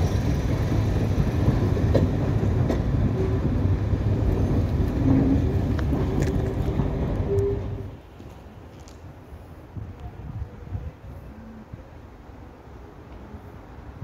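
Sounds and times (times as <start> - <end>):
diesel train engine rumble: 0.0 - 14.0.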